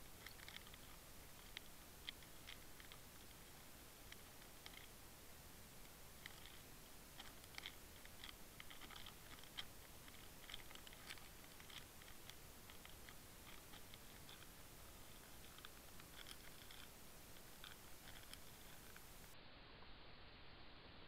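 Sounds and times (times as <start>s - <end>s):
soft underwater clicks and crackles: 0.0s - 5.0s, 5.8s - 19.3s.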